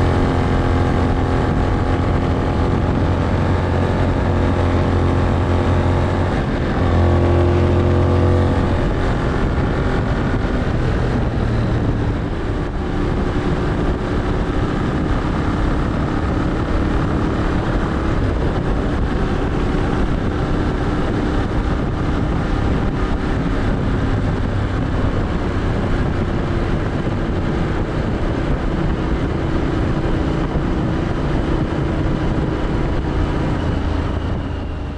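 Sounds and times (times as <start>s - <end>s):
motorcycle engine running: 0.0s - 34.9s
wind rush: 0.0s - 34.9s.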